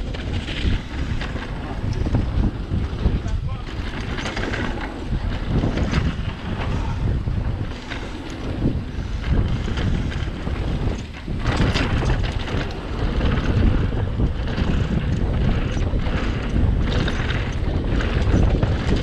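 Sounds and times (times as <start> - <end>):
bike rattling over rough trail: 0.0 - 19.0
wind buffeting microphone: 0.0 - 19.0.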